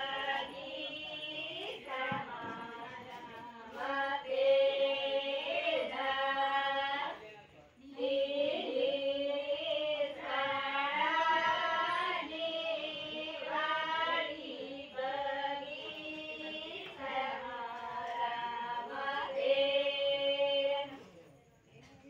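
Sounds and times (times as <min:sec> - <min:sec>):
women singing without instruments: 0:00.0 - 0:07.2, 0:07.8 - 0:21.0.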